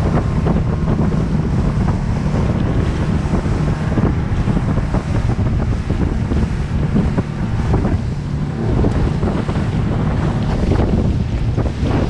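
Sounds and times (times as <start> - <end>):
boat motor: 0.0 - 12.0
hull slapping water: 0.0 - 12.0
wind buffeting microphone: 0.0 - 12.0.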